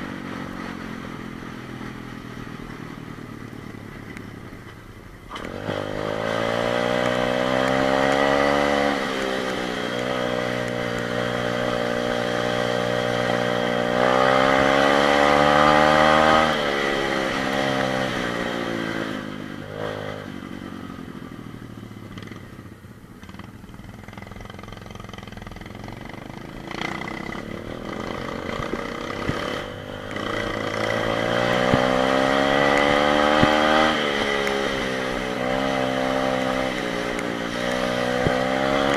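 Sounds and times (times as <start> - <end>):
motorbike engine revving: 5.3 - 22.5, 23.2 - 38.9.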